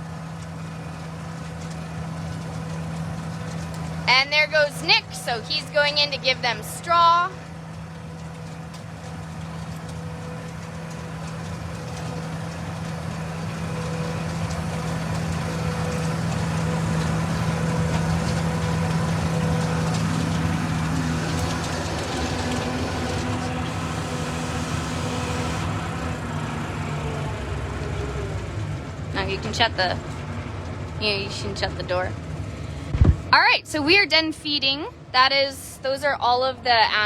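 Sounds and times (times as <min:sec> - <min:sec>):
tractor engine under load: 0:00.0 - 0:37.0.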